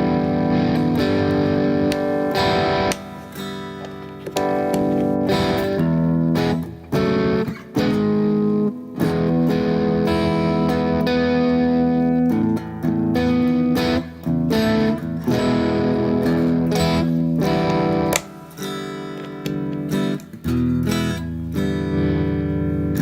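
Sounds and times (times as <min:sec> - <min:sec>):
overdriven electric guitar chords: 0:00.0 - 0:23.0.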